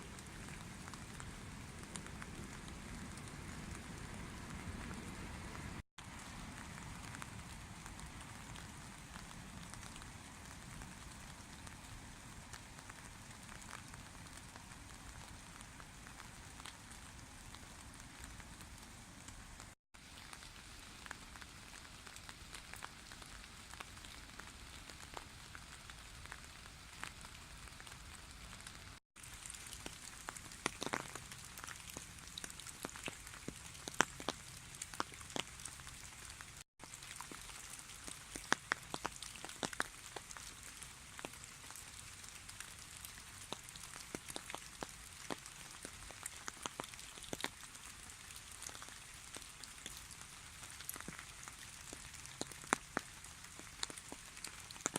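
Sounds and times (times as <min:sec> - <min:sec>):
light drizzle hiss: 0:00.0 - 0:54.9
raindrops ticking: 0:00.0 - 0:54.9.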